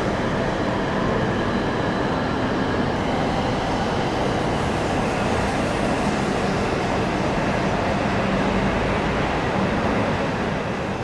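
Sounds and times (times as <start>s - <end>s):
train rumbling past slowly: 0.0s - 11.0s.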